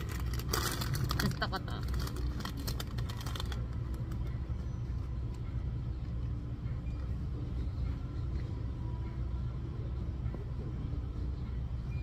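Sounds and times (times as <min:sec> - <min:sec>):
supermarket background rumble: 0:00.0 - 0:12.0.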